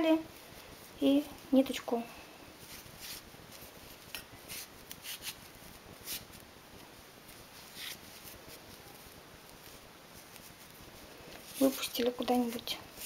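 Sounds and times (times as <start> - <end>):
yarn rustling by hand: 0.0 - 13.0.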